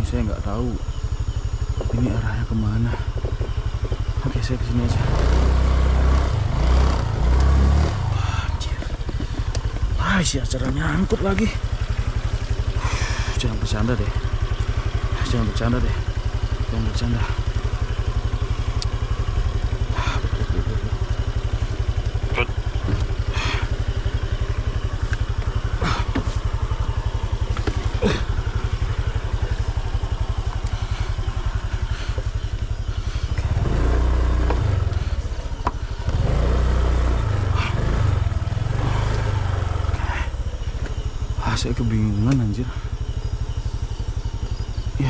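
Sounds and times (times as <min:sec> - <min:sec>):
motorcycle engine running: 0:00.0 - 0:45.0
knocks and clatter over rough ground: 0:00.8 - 0:41.6.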